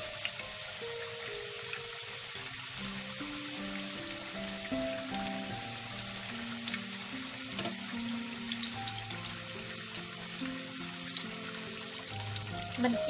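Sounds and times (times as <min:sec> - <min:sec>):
food sizzling in hot oil: 0:00.0 - 0:13.0
soft background music: 0:00.0 - 0:13.0.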